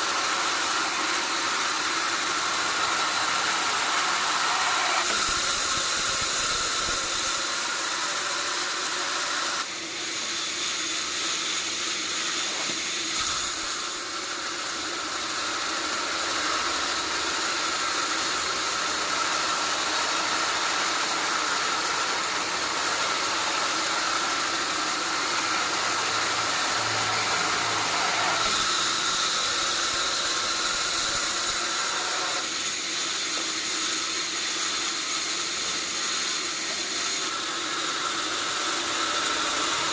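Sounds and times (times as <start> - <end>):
sawmill machinery whining hiss: 0.0 - 39.9.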